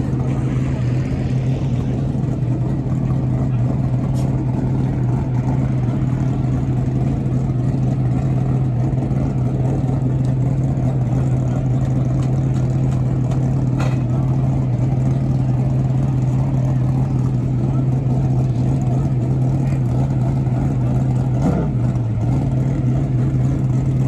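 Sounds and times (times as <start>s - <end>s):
race truck engines droning: 0.0s - 24.0s.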